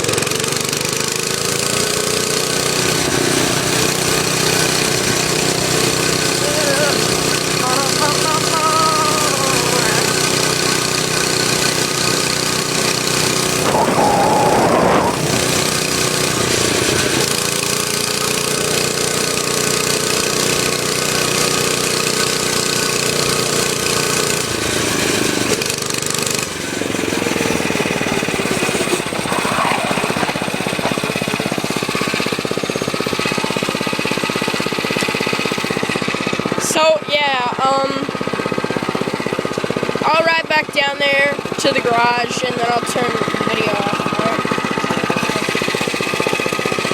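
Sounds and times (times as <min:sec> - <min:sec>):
small gasoline engine revving: 0:00.0 - 0:46.9.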